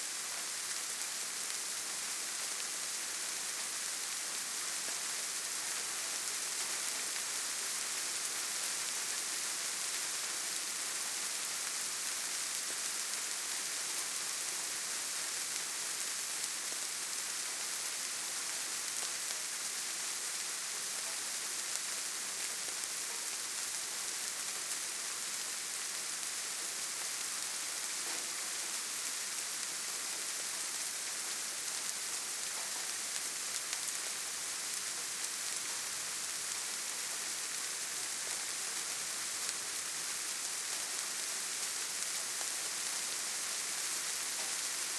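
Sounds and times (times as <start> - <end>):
steady rainfall hiss: 0.0 - 44.9.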